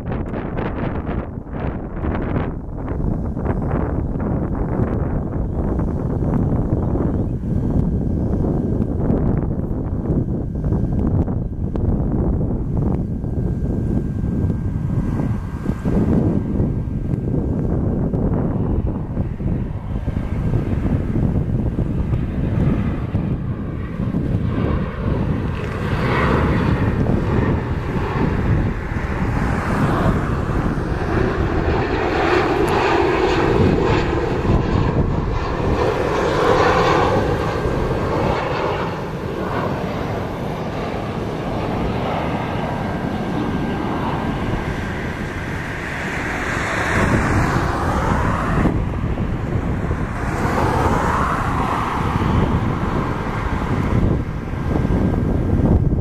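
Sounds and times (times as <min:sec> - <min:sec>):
jet airliner engines droning: 0:00.0 - 0:56.0.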